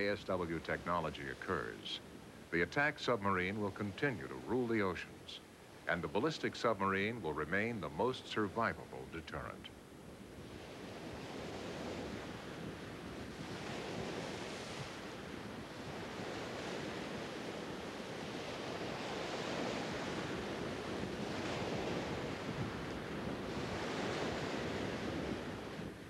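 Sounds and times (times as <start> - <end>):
sea water rushing and surging: 0.0 - 26.0.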